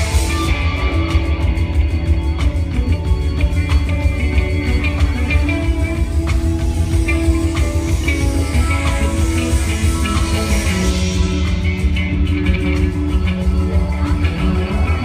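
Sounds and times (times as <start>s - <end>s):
reggae band playing: 0.0s - 15.0s.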